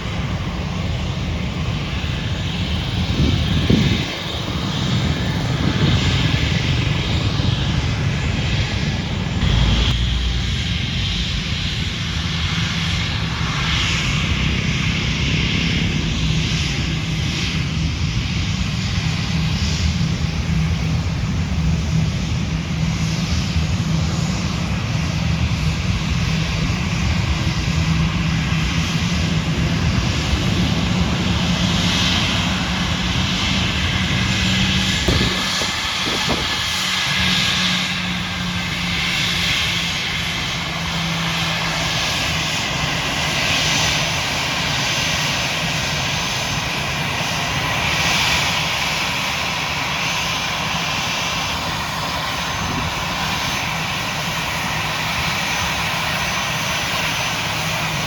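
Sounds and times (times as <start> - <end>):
low engine hum: 0.0 - 48.4
airliner engines running: 0.0 - 58.0.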